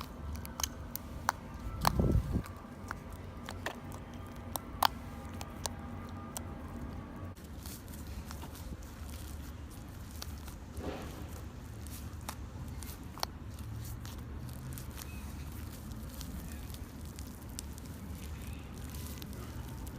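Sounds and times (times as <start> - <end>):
low steady hum: 0.0 - 19.9
slime squishing: 0.0 - 19.9
small clicks and crackles: 0.0 - 19.9.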